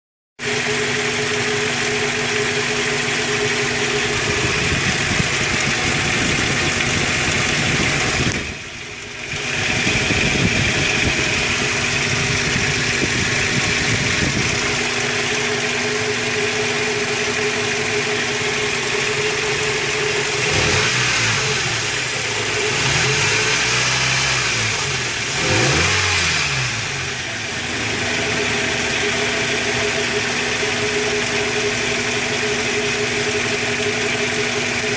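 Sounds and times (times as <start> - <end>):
engine running with clatter: 0.4 - 34.9.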